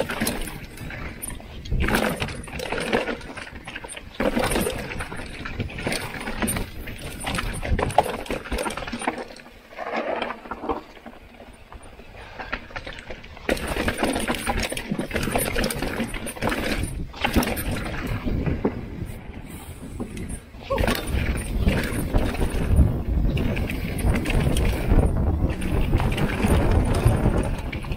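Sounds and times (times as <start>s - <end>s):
bike rattling over bumps: 0.0s - 27.9s
bike tyres crunching over dirt: 0.0s - 27.9s.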